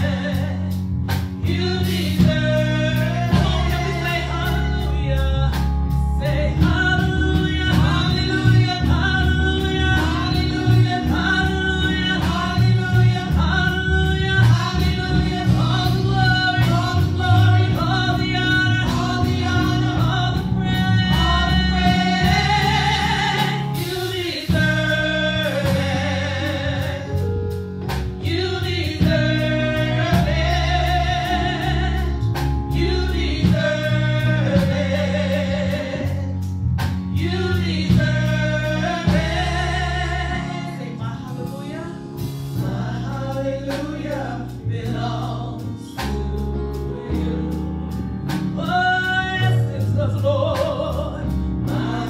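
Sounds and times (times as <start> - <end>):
low bass notes: 0.0 - 52.0
steady drum beat: 0.0 - 52.0
woman singing gospel: 0.0 - 52.0.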